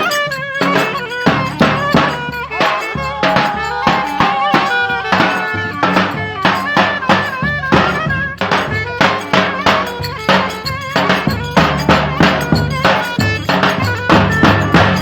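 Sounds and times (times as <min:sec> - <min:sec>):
drum beat: 0:00.0 - 0:15.0
wind instrument melody: 0:00.0 - 0:15.0.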